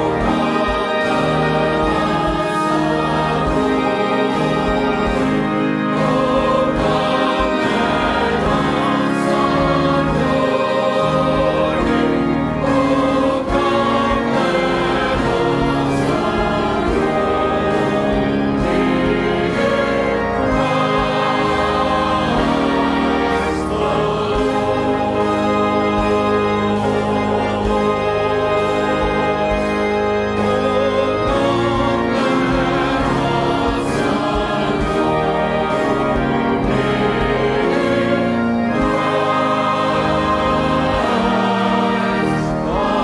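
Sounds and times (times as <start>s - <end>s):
group singing a worship song: 0.0s - 43.0s
instrumental accompaniment: 0.0s - 43.0s.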